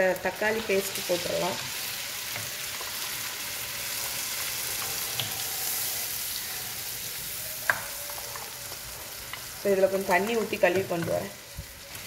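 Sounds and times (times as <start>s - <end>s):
paste sizzling in a frying pan: 0.0s - 12.0s.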